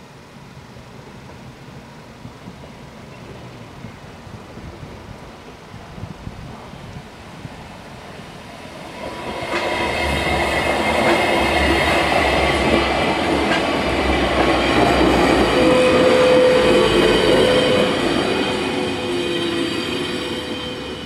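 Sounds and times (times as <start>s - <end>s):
train wheel and track rumble: 0.9s - 21.0s.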